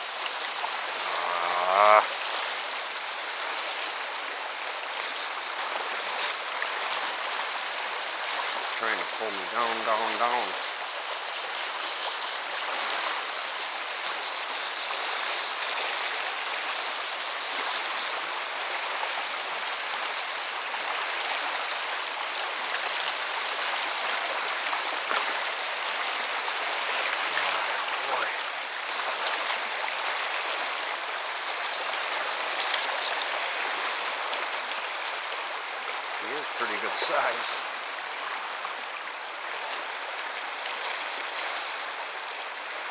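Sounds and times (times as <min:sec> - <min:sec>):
river rushing over rocks: 0:00.0 - 0:42.9.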